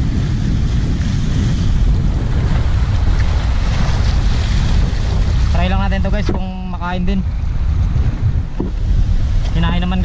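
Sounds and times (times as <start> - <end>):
surf washing over rocks: 0.0 - 10.0
wind buffeting microphone: 0.0 - 10.0.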